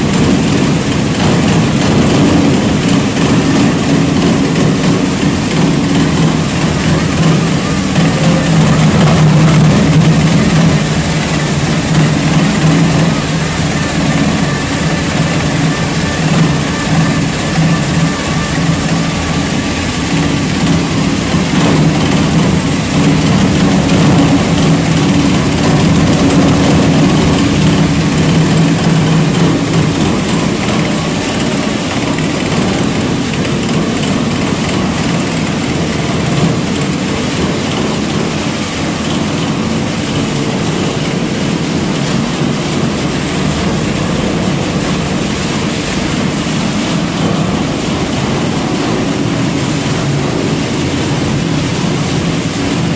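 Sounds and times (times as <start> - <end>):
shredder machine running: 0.0 - 52.9.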